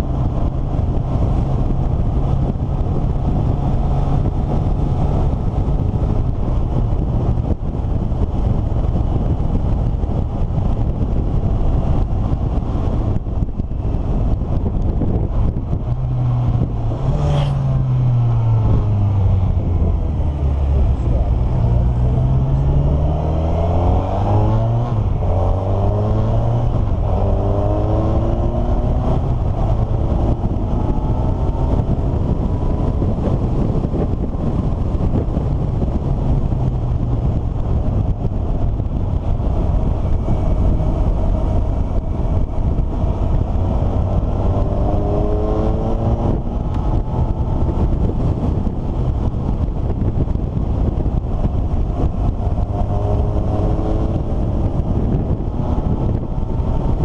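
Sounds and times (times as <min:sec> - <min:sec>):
steady low rumble: 0:00.0 - 0:57.0
vehicle engine accelerating: 0:00.0 - 0:57.0.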